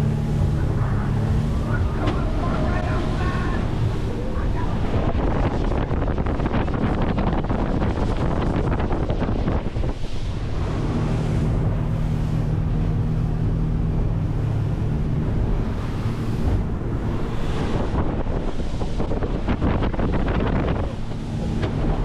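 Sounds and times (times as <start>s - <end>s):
speedboat engine: 0.0s - 22.0s
wind buffeting microphone: 0.0s - 22.0s.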